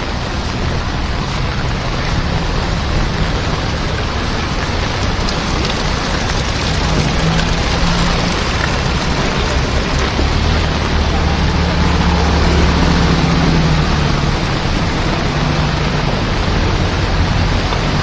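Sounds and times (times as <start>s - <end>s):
heavy rain pouring: 0.0s - 18.0s
low engine hum: 0.0s - 18.0s.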